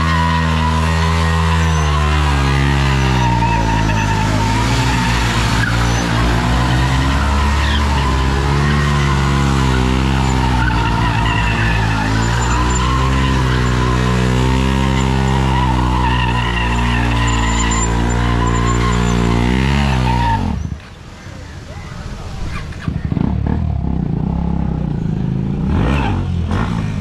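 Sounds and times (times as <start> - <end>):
motorcycle engines revving high: 0.0 - 27.0
tyres skidding on asphalt: 0.0 - 27.0.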